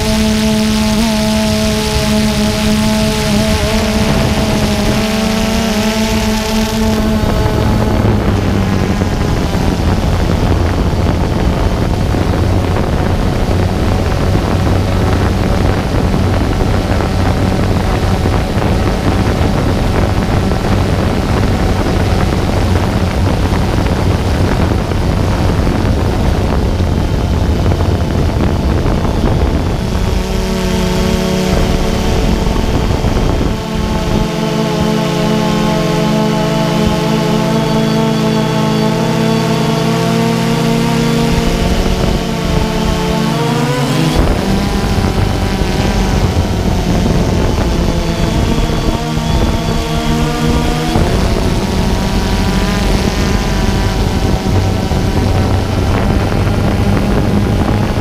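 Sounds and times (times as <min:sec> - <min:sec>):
drone propellers buzzing: 0:00.0 - 0:58.0
multi-pitch whine: 0:00.0 - 0:58.0
wind on microphone: 0:00.0 - 0:58.0.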